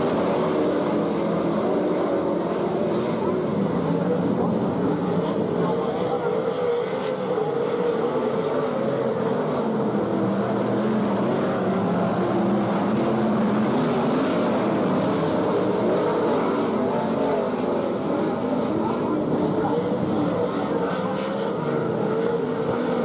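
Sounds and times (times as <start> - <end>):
race car engines racing: 0.0 - 23.0.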